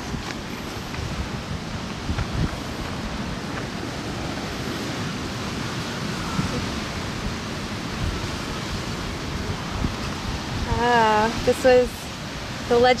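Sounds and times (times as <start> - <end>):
ocean surf: 0.0 - 13.0
wind rumbling on microphone: 0.0 - 13.0.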